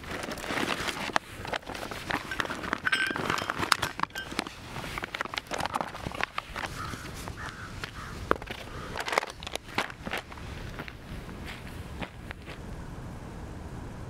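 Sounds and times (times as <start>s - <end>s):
dry leaves rustling underfoot: 0.0s - 12.6s.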